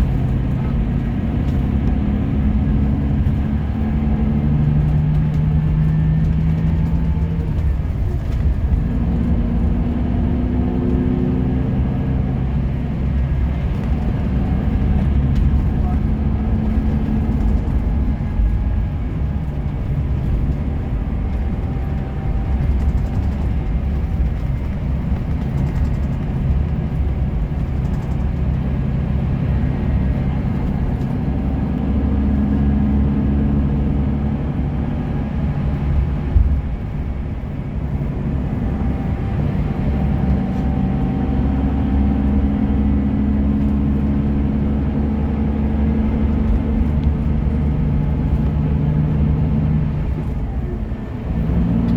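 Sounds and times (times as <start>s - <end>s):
bus diesel engine running: 0.0s - 51.9s.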